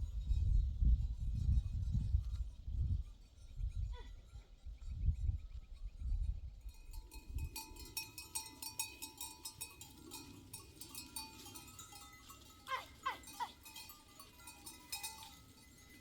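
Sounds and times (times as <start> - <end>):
sheep and goat bells clanking: 0.0 - 16.0.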